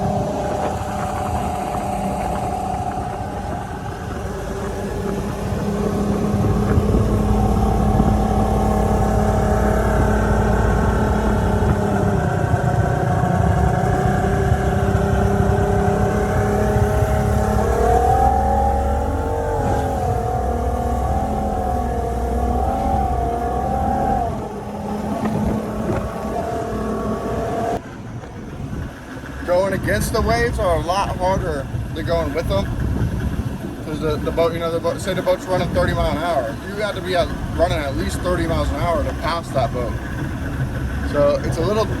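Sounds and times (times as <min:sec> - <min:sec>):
boat engine running: 0:00.0 - 0:42.0
low rushing noise: 0:00.0 - 0:42.0.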